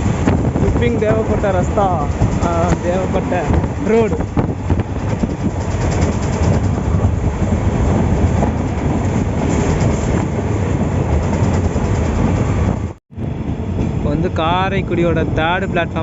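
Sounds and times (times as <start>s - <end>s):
wheels clacking over rail joints: 0.0s - 13.0s
train rumble: 0.0s - 16.0s.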